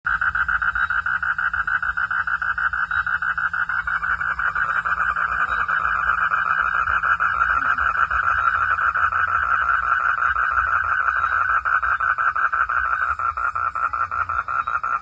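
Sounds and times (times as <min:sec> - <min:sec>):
frogs trilling: 0:00.1 - 0:15.0.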